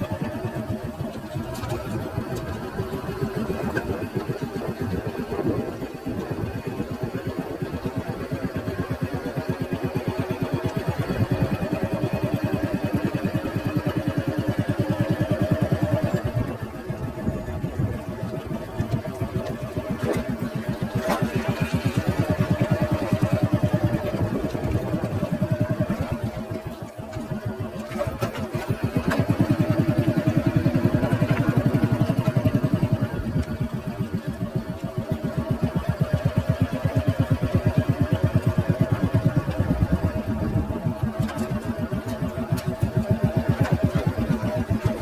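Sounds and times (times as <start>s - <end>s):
small engine running steadily: 0.0s - 45.0s.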